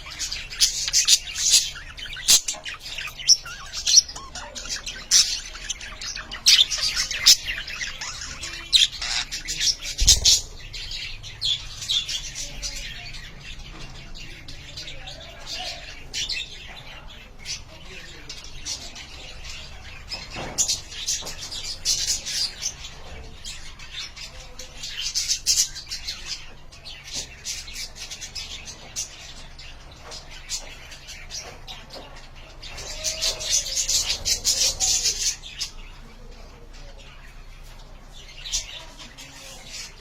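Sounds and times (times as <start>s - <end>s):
budgerigars chirping and chattering: 0.0s - 40.0s.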